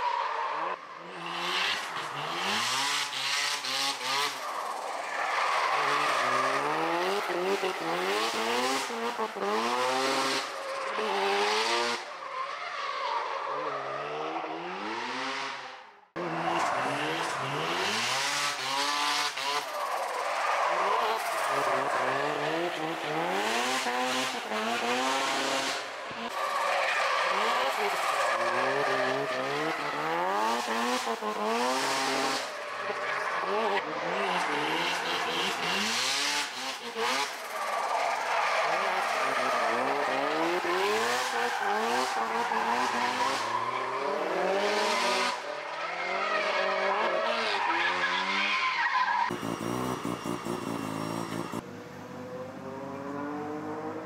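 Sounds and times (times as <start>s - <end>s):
car engine revving: 0.6s - 12.1s, 13.8s - 54.0s.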